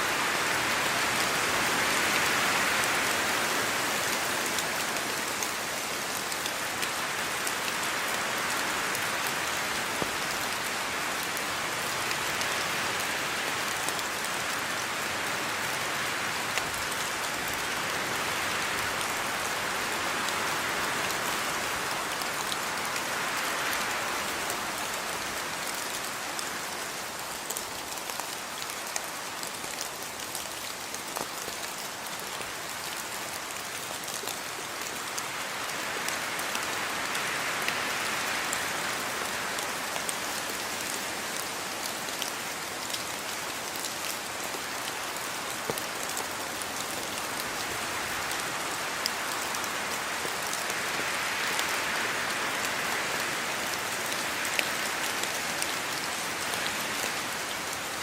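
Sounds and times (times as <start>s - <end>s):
raindrops pattering on surfaces: 0.4s - 58.0s.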